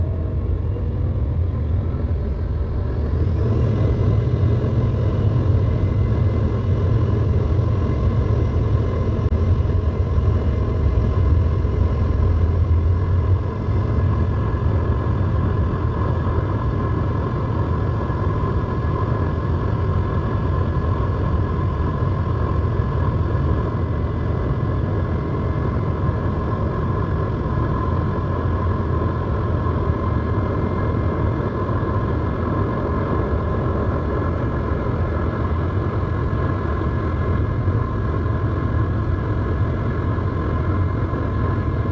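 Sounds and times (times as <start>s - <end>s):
jet airliner low rumble: 0.0s - 41.9s
jet engine whine: 0.0s - 41.9s.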